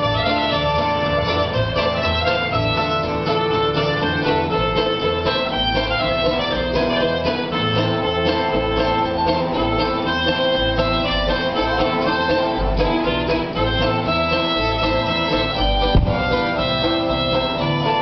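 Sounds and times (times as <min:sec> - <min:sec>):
bass line: 0:00.0 - 0:18.0
fiddle melody: 0:00.0 - 0:18.0
guitar accompaniment: 0:00.0 - 0:18.0.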